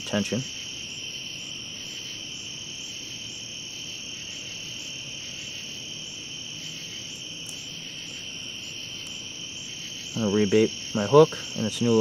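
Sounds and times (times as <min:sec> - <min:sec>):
crickets trilling: 0:00.0 - 0:12.0
high insect chirp: 0:00.0 - 0:12.0.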